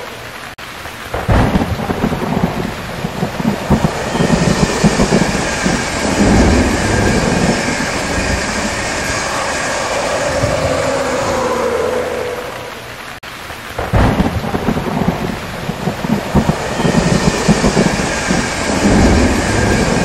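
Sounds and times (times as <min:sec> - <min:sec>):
steady hiss: 0:00.0 - 0:20.0
wheels clattering on rails: 0:01.2 - 0:12.4, 0:14.2 - 0:20.0
train passing: 0:01.6 - 0:13.2, 0:14.3 - 0:20.0.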